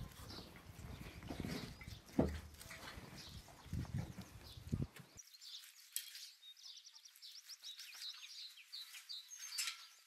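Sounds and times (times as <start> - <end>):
small birds twittering: 0.0 - 10.0.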